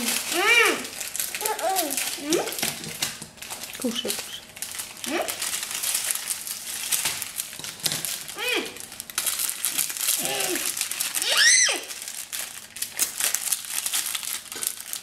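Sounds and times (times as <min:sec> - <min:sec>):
cookies being crushed: 0:00.0 - 0:15.0
foil wrappers crinkling: 0:00.0 - 0:15.0.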